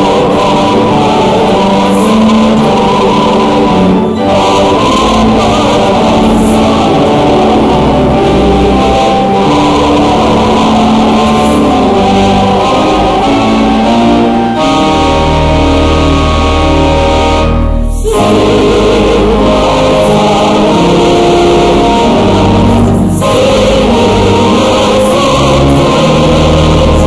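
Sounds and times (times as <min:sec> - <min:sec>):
congregation singing a hymn: 0:00.0 - 0:27.0
instrumental accompaniment: 0:00.0 - 0:27.0.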